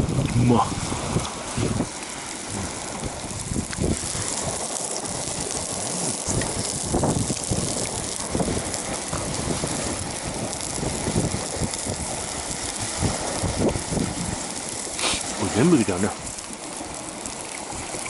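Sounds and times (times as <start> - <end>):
wind gusting against microphone: 0.0 - 18.0.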